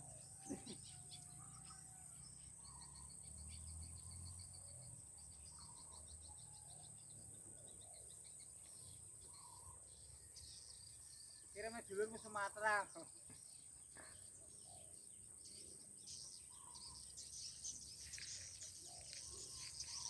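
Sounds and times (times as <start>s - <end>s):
faint bird-like chirps: 0.0s - 11.7s, 13.0s - 20.0s.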